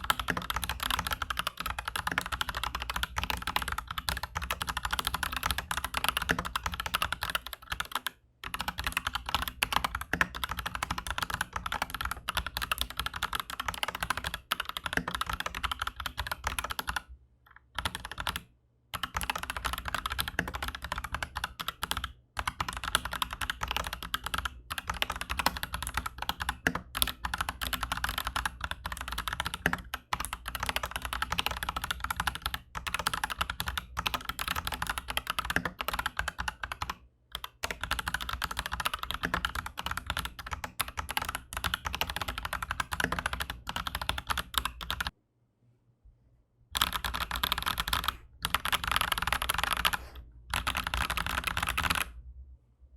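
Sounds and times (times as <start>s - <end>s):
mechanical keyboard typing: 0.0s - 45.2s, 46.8s - 52.2s.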